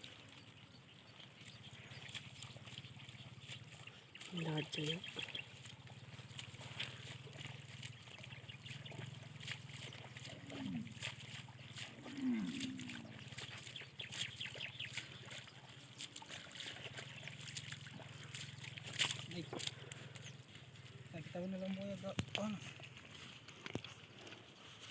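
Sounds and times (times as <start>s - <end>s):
river water splashing: 0.0s - 24.9s.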